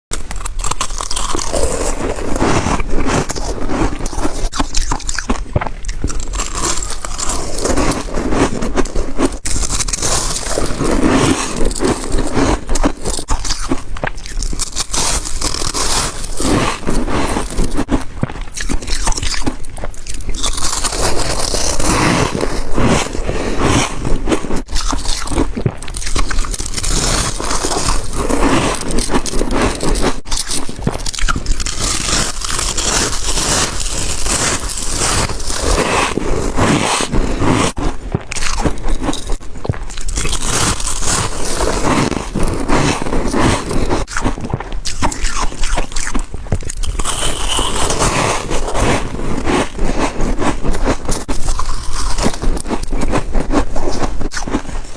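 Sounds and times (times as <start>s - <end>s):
ice being chewed: 0.1s - 54.9s.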